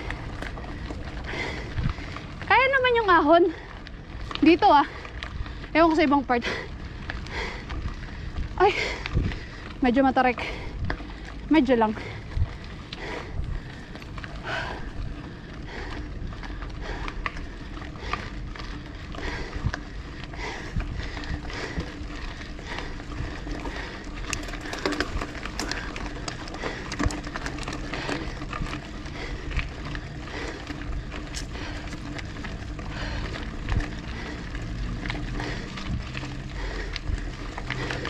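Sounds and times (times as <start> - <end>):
bicycle clicks and rattles: 0.0 - 38.0
road rumble: 0.0 - 38.0.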